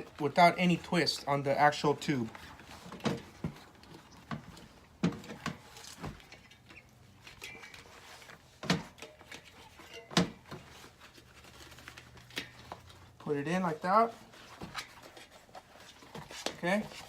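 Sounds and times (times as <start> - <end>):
faint rubbing and handling noise: 0.0 - 17.0.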